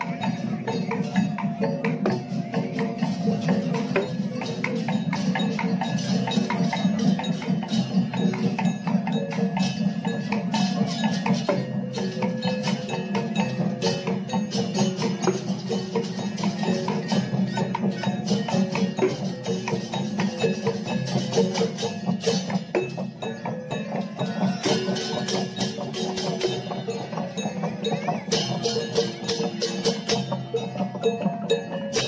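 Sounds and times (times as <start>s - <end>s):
bamboo slit drums: 0.0s - 32.0s
cymbals: 0.0s - 32.0s
hand drums: 0.0s - 32.0s
wooden bells clacking: 0.0s - 32.0s.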